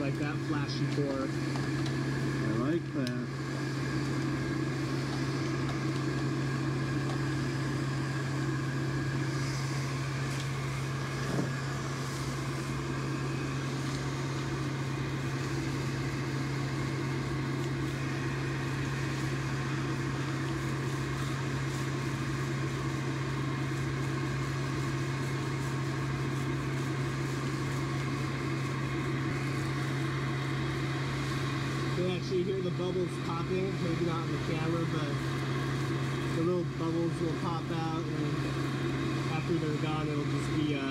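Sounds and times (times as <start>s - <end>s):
blower motor humming: 0.0s - 40.9s.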